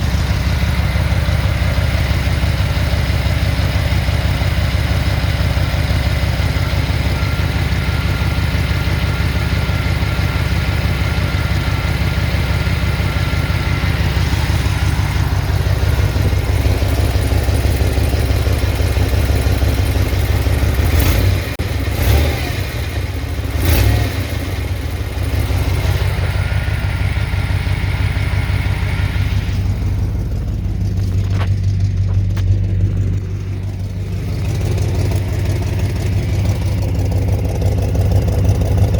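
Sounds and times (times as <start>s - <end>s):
car engine with exhaust leak: 0.0s - 38.9s.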